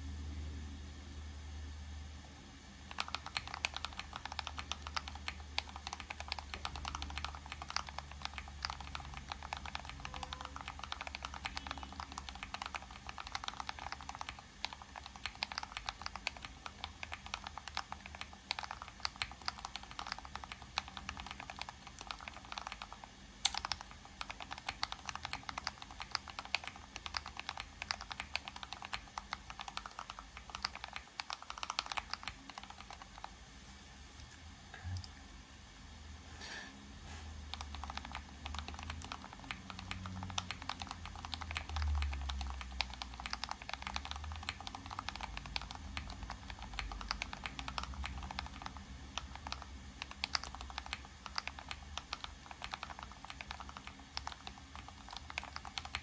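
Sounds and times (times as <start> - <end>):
fast mechanical keyboard typing: 2.9 - 33.3, 37.5 - 56.0.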